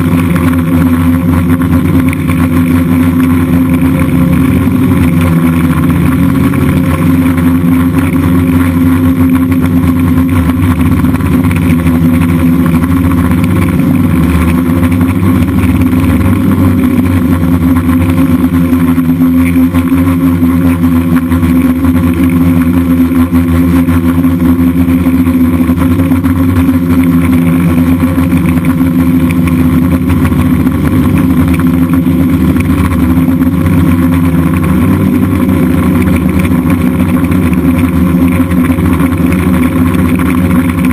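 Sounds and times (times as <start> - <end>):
drone motors and propellers buzzing: 0.0 - 40.9.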